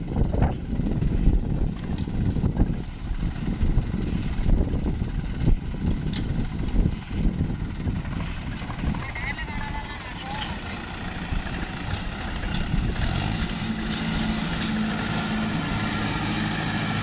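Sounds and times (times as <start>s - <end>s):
tractor diesel engines under load: 0.0s - 17.0s.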